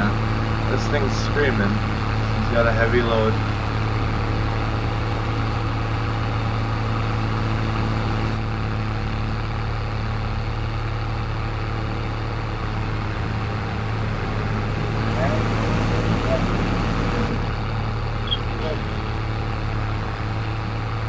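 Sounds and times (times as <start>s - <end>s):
farm machinery engine drone: 0.0s - 21.0s.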